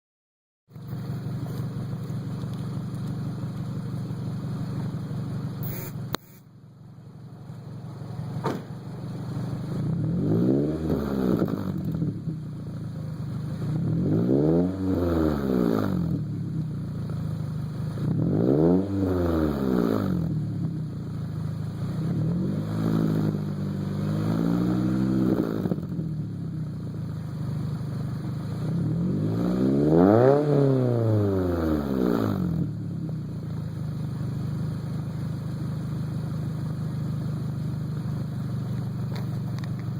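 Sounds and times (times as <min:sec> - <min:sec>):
car engine idling and revving: 0:00.7 - 0:39.9.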